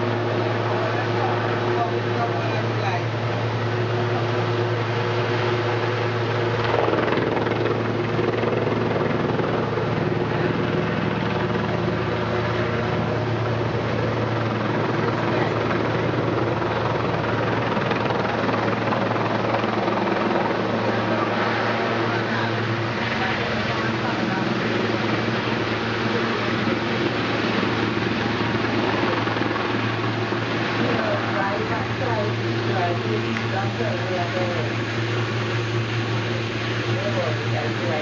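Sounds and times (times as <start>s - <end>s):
helicopter rotor and engine: 0.0s - 38.0s.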